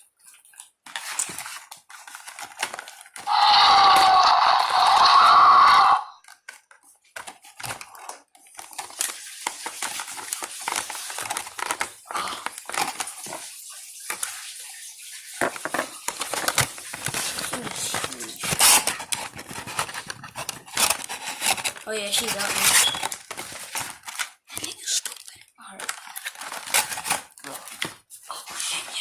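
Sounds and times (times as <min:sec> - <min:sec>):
plastic and cardboard crinkling: 0:00.0 - 0:14.6, 0:15.2 - 0:29.0.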